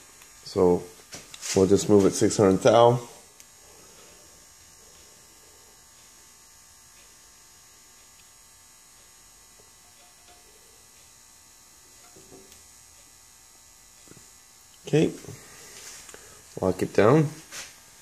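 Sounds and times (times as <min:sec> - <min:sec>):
faint electrical hum: 0:00.0 - 0:18.0
low hiss: 0:00.0 - 0:18.0.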